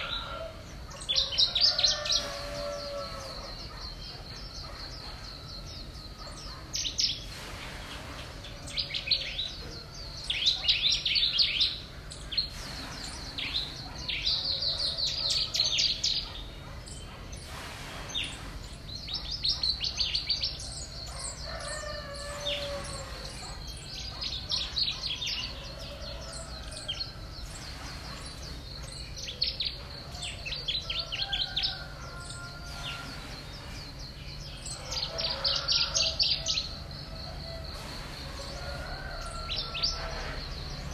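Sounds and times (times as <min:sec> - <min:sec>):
small birds chirping trills: 0:00.0 - 0:40.9.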